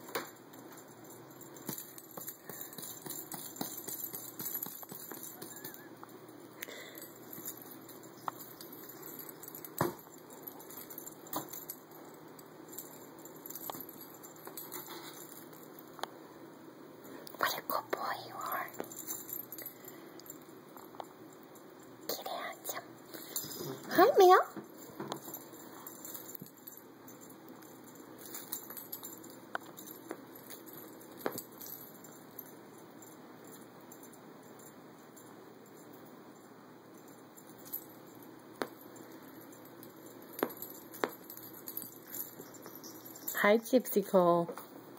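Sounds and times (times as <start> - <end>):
collar tag jingling: 0.3 - 16.0, 17.4 - 44.5.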